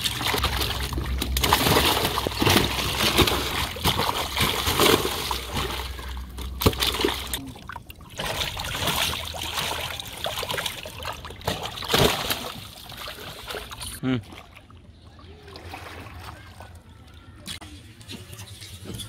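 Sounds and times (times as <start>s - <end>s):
fish thrashing and splashing: 0.0s - 16.8s.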